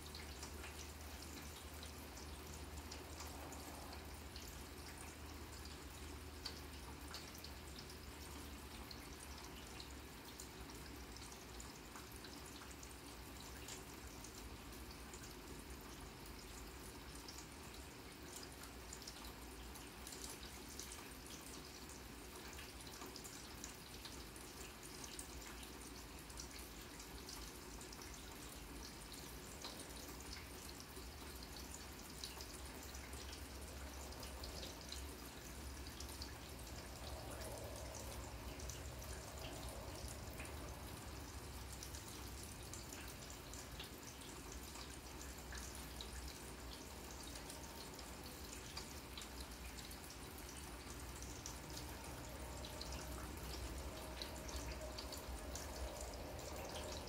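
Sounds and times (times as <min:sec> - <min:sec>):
drip ticks: 0:00.0 - 0:57.0
light rain on grass: 0:00.0 - 0:57.0.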